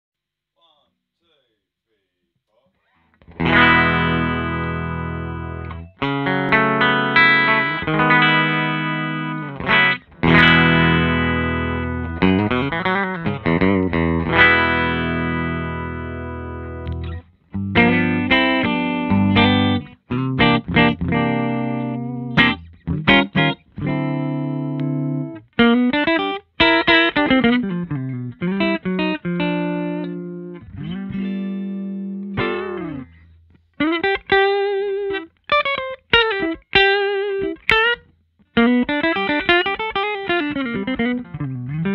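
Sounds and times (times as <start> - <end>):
electric blues guitar: 3.1 - 41.9.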